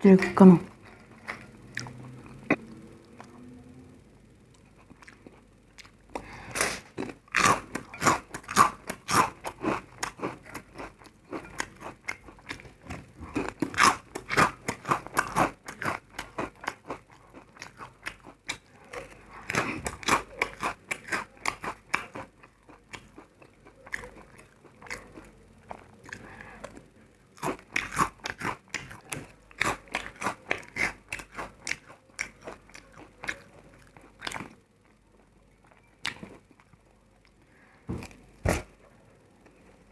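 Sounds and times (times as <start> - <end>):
chewing crunchy food: 0.2 - 3.4, 4.5 - 37.4.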